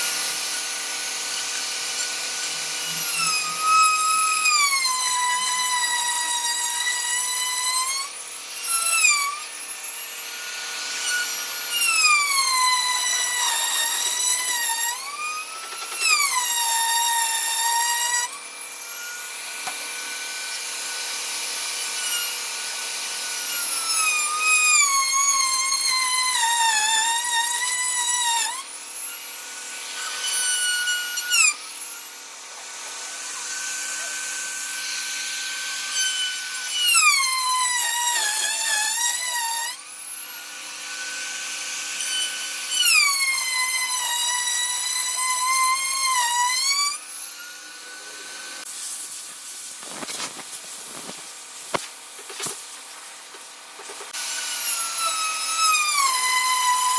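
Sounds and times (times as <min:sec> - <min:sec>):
power tool cutting wood: 0:00.0 - 0:56.9.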